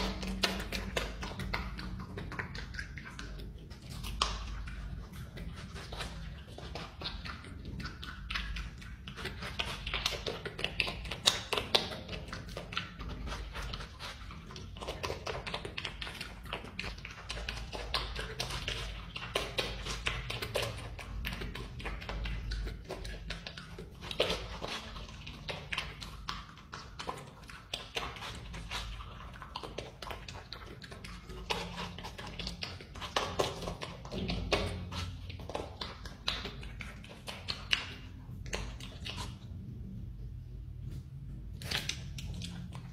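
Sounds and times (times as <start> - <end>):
animal chewing watermelon: 0.0 - 42.9.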